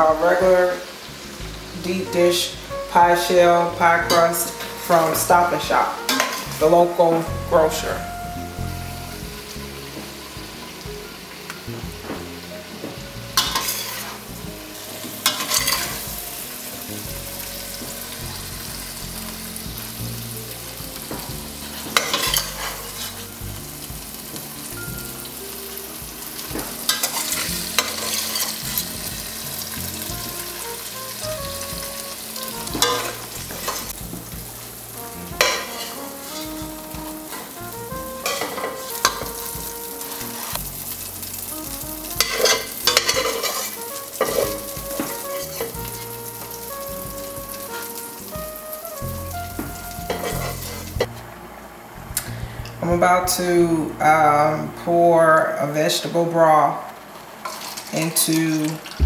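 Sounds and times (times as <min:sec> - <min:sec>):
filling sizzling in a pot: 0:00.0 - 0:51.3, 0:51.9 - 0:59.0.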